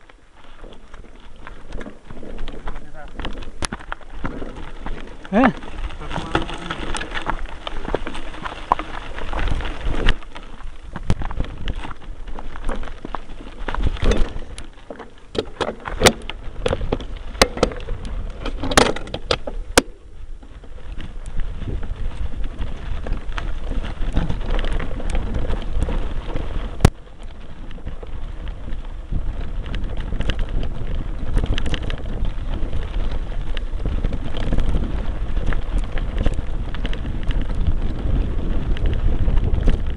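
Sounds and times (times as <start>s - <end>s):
bike knocks and rattles: 0.0s - 39.9s
bike tyres rumbling on gravel: 0.0s - 39.9s
wind buffeting microphone: 0.0s - 39.9s.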